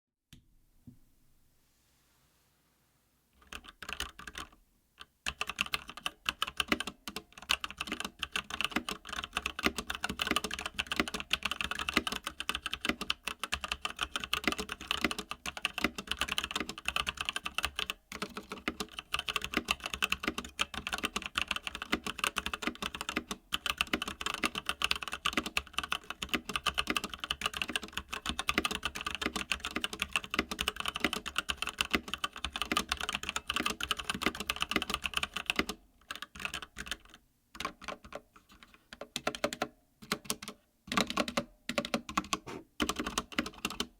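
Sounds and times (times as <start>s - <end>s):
mechanical keyboard typing: 3.4s - 43.9s.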